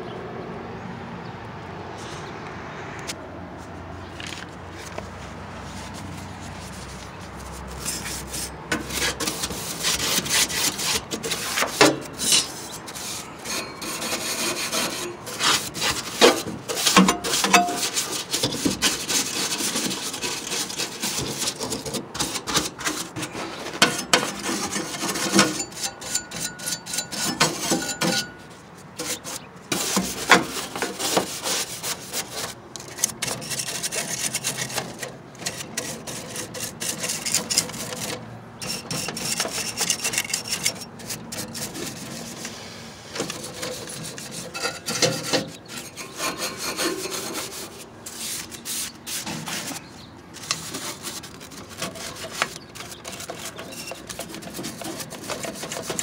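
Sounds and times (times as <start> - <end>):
brush scrubbing sheet metal: 5.6 - 56.0.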